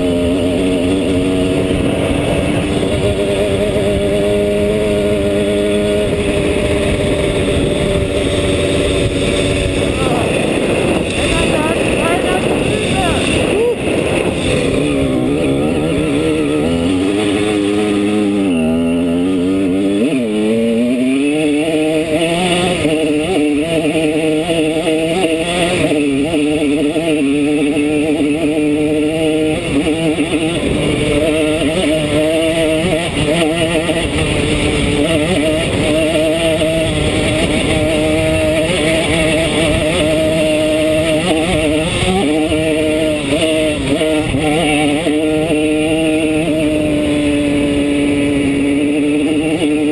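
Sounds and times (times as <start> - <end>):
two-stroke moped engine revving: 0.0 - 49.9.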